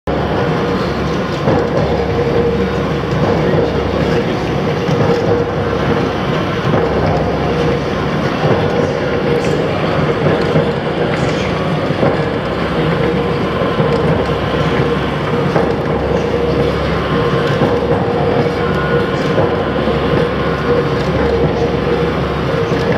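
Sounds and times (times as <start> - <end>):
crank press running with whine: 0.0 - 22.9.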